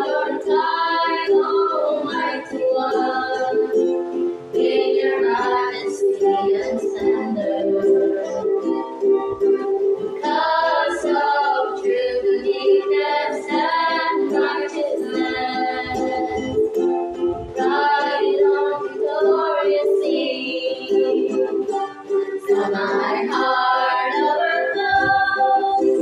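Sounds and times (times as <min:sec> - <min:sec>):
young women singing a hymn: 0:00.0 - 0:08.7, 0:10.2 - 0:16.6, 0:17.6 - 0:26.0
ukulele strumming: 0:00.0 - 0:26.0.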